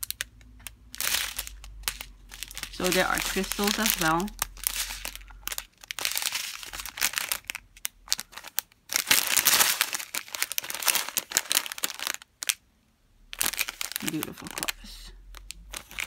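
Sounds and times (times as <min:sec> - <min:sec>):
plastic bags crinkling: 0:00.0 - 0:12.6, 0:13.3 - 0:16.0.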